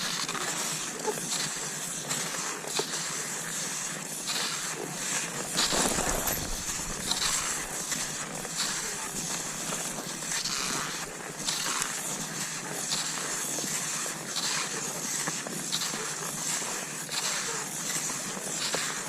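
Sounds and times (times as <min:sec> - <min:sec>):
skis gliding and scraping on snow: 0:00.0 - 0:19.0.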